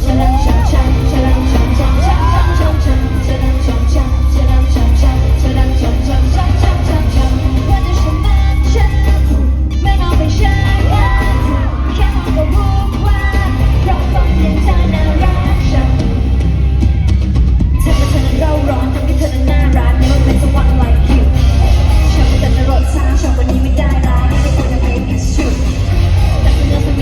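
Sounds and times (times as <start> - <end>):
person singing: 0.0 - 16.8, 17.7 - 27.0
live pop music: 0.0 - 27.0.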